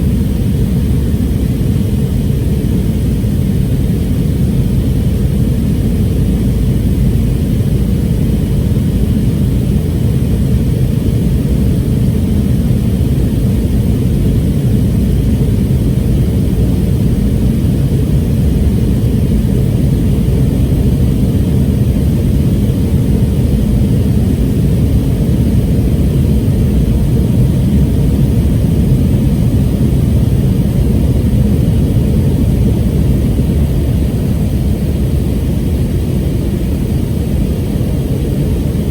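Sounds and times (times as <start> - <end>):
airplane cabin engine roar: 0.0 - 38.9.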